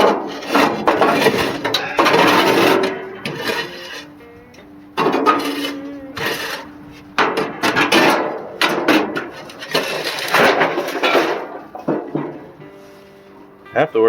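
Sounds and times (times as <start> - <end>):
tool scraping rust from grill: 0.0 - 13.2.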